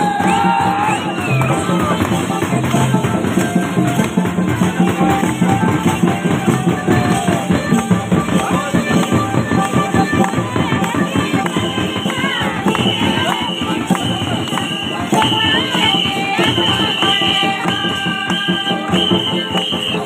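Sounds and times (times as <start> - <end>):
drum beaten in quick rhythm: 0.0 - 20.0.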